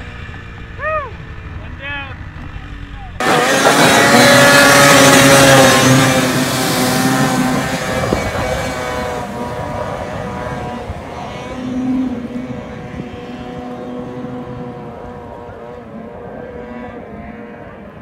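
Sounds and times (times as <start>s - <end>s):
snowmobile engine at high revs: 0.0s - 18.0s.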